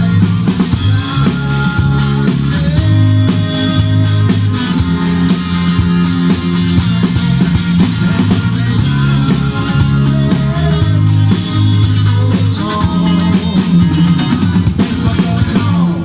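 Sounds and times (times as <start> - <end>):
bass notes: 0.0 - 16.0
drum kit beat: 0.0 - 16.0
electric guitar: 0.0 - 16.0.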